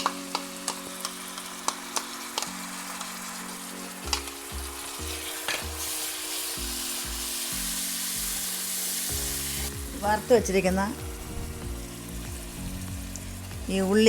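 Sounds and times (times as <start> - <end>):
soft background music: 0.0 - 14.0
spices sizzling in oil: 0.0 - 14.0.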